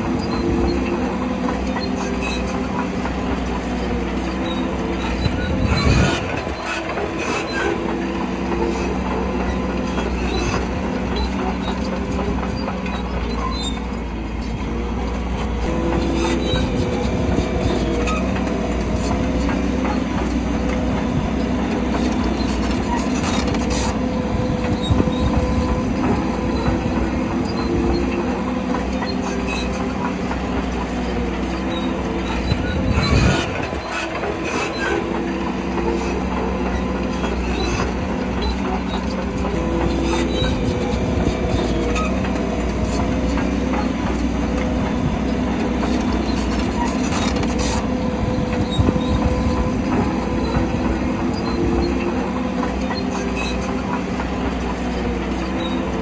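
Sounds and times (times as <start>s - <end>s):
bulldozer diesel engine droning: 0.0s - 56.0s
steel tracks squealing and clanking: 0.0s - 56.0s.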